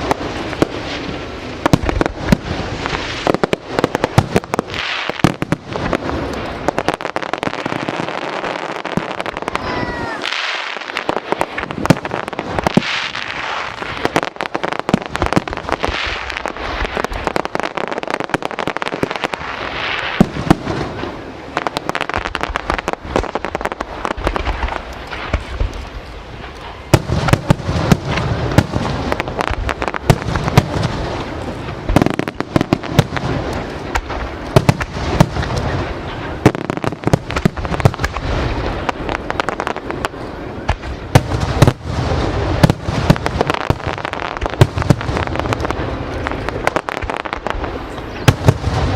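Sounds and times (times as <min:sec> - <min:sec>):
deep fireworks booms: 0:00.0 - 0:48.9
fireworks bursting and crackling: 0:00.0 - 0:48.9.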